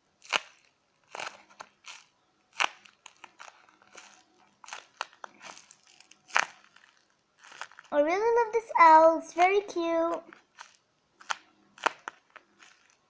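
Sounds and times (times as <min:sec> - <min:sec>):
paper and tape crinkling: 0:00.2 - 0:13.0.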